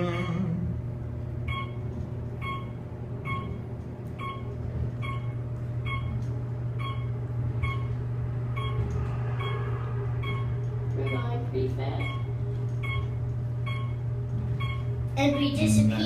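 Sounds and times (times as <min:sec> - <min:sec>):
elevator short electronic beep: 0:00.0 - 0:00.6, 0:01.5 - 0:03.6, 0:04.2 - 0:06.2, 0:06.8 - 0:16.0
low hum of elevator car: 0:00.0 - 0:16.0.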